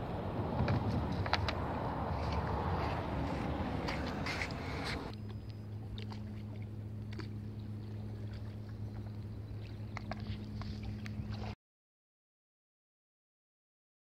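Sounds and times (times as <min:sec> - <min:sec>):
steady low hum: 0:00.0 - 0:11.6
water dripping and lapping: 0:00.0 - 0:11.6.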